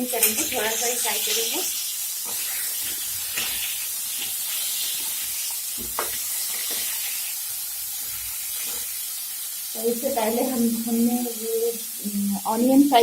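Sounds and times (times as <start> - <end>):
potatoes sizzling in hot oil: 0.0 - 13.0.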